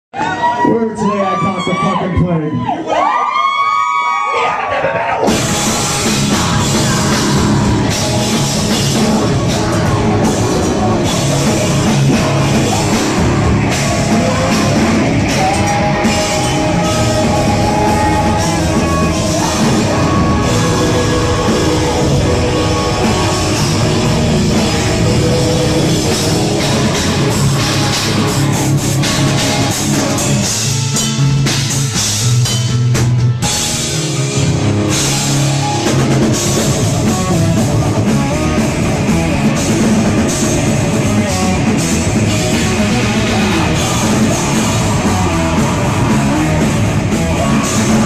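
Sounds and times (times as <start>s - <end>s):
distorted guitars: 3.5s - 48.0s
pounding drum kit: 4.5s - 48.0s.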